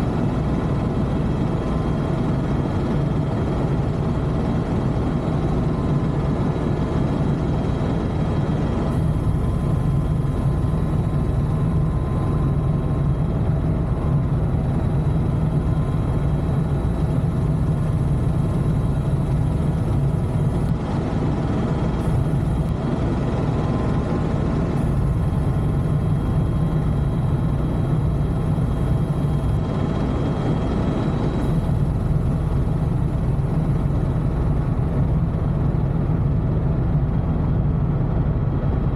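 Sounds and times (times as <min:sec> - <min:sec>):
faint whine tones: 0:00.0 - 0:38.9
helicopter rotor and engine drone: 0:00.0 - 0:38.9.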